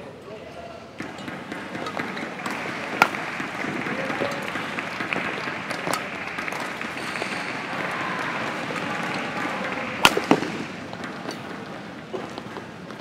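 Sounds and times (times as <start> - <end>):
crowd murmur: 0.0 - 13.0
racket hitting shuttlecock: 1.0 - 12.7.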